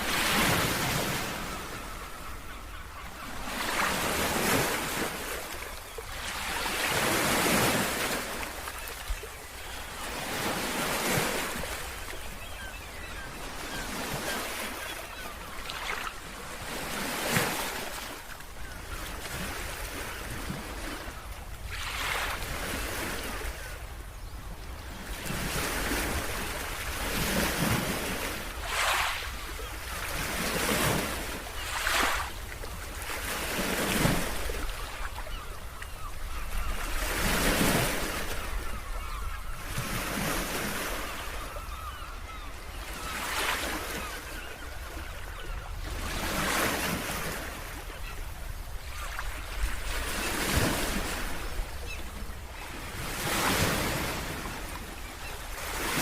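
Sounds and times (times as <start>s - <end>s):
sea waves breaking on beach: 0.0s - 2.0s, 3.4s - 23.7s, 25.0s - 56.0s.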